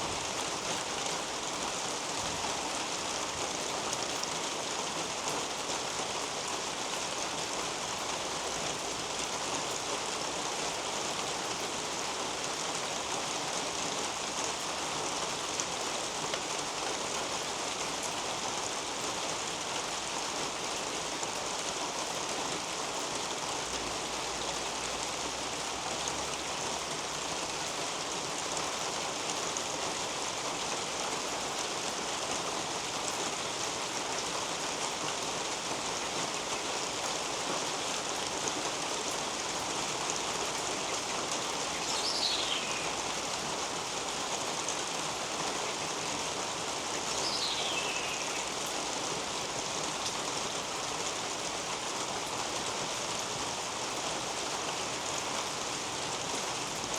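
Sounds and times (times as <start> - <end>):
rain on leaves and roof: 0.0 - 56.9.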